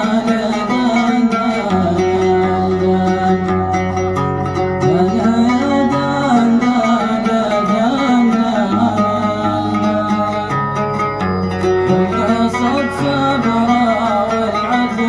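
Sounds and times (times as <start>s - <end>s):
man singing: 0.0s - 4.1s, 4.8s - 11.2s, 11.9s - 15.0s
plucked oud: 0.0s - 15.0s.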